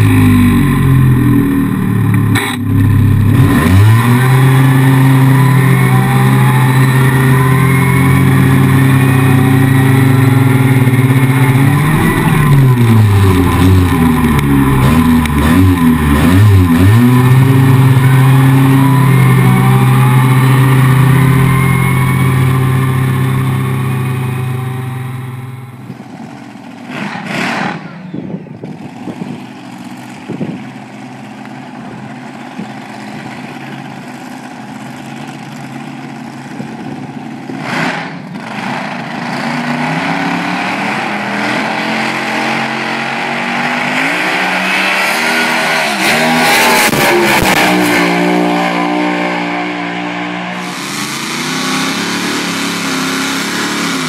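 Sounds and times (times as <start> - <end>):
outdoor background: 0.0 - 54.0
quad engine running under load: 0.0 - 54.0.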